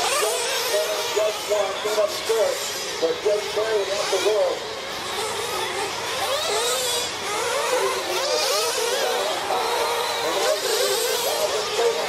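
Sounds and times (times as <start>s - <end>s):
rc nitro engines whining: 0.0s - 12.0s.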